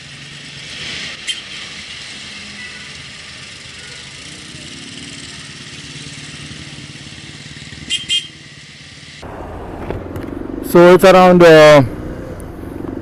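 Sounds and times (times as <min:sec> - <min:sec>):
motorcycle engine running: 0:00.0 - 0:10.8
second engine: 0:00.0 - 0:13.0
wind and road noise: 0:00.0 - 0:13.0.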